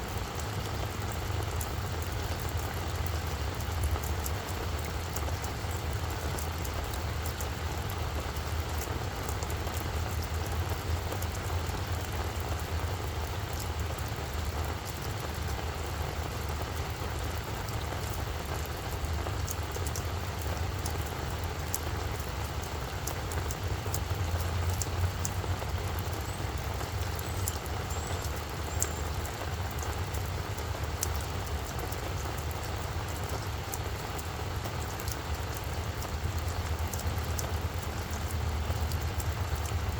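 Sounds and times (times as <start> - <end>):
rain falling on plants: 0.0 - 39.9.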